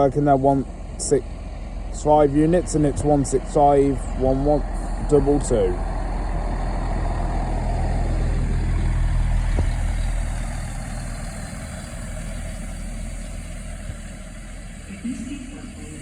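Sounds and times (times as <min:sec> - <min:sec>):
diesel train engine humming: 0:00.0 - 0:16.0
train rushing sound: 0:00.0 - 0:16.0.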